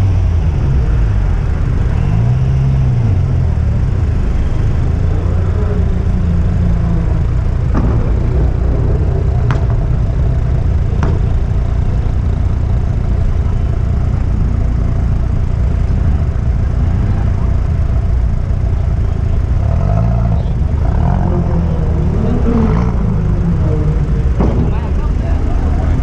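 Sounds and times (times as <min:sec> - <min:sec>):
car engines rumbling: 0:00.0 - 0:26.0
engine revving: 0:00.0 - 0:26.0.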